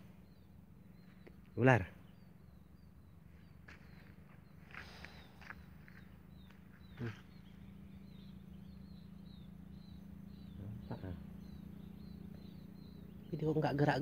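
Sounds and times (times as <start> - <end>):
bird chirping: 0.0 - 14.0
steady low hum: 0.0 - 14.0.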